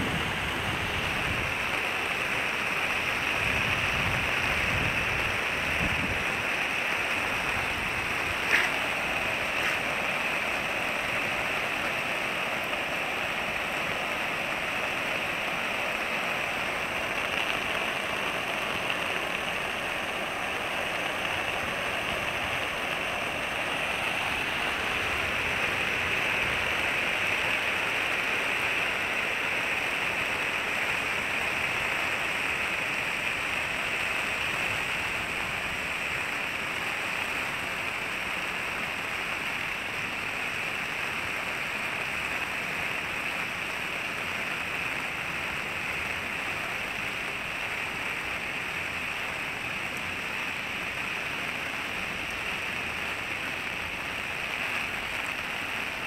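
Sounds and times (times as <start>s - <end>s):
steady rain on wet pavement: 0.0s - 56.0s.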